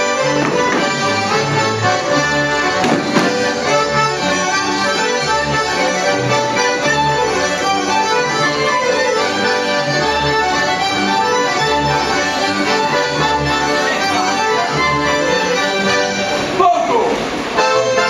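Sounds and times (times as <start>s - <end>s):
double bass notes: 0.0s - 16.6s
accordion: 0.0s - 18.0s
folk band playing dance tune: 0.0s - 18.0s.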